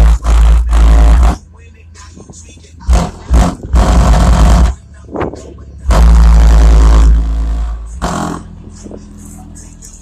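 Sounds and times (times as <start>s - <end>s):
bass-heavy music through subwoofer: 0.0s - 10.0s.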